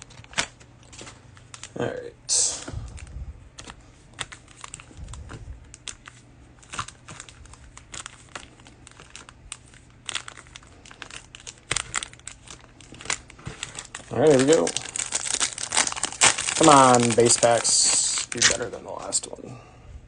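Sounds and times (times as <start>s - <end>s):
cellophane wrapper crinkling and tearing: 0.0s - 19.3s.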